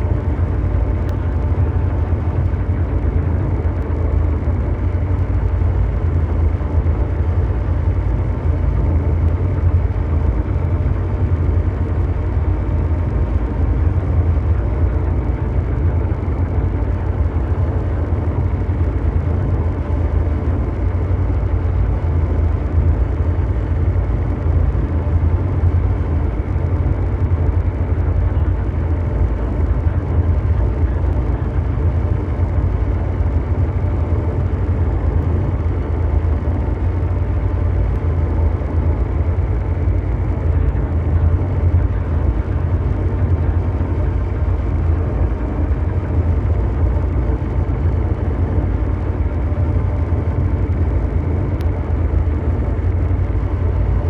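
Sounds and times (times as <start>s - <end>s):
deep mechanical rumble: 0.0s - 54.0s
faint steady hum tones: 0.0s - 54.0s.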